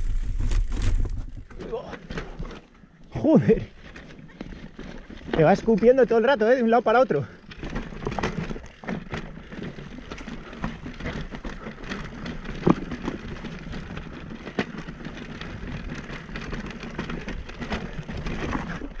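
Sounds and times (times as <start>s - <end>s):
mountain bike clattering on rock: 0.0s - 19.0s.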